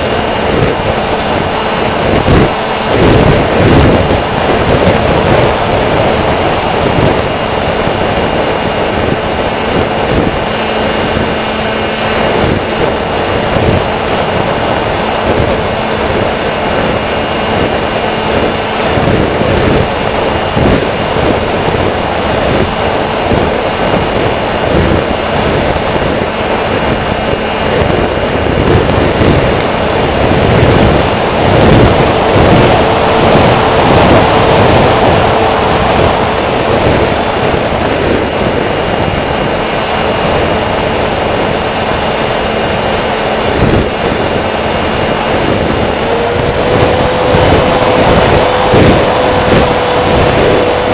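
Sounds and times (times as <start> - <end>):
drone motors whining: 0.0 - 50.9
loud rushing noise: 0.0 - 50.9.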